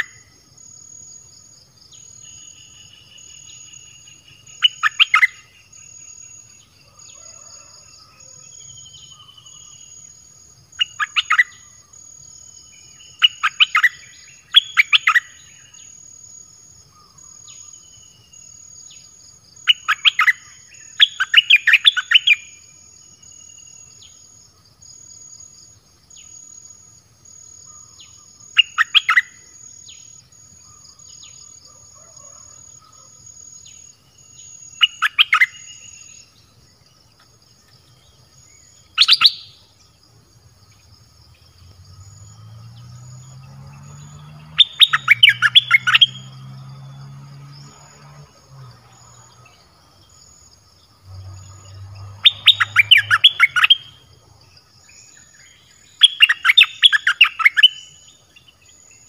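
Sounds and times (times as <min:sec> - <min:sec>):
insect trill: 0:00.0 - 0:59.0
songbirds singing: 0:00.0 - 0:59.0.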